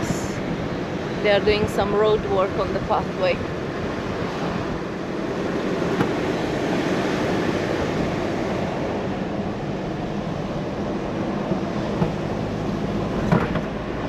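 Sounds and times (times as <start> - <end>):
car driving cabin noise: 0.0 - 14.0.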